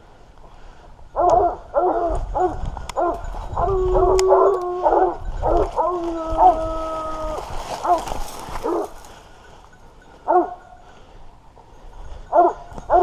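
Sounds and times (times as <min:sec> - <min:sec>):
hounds baying: 0:01.1 - 0:13.0.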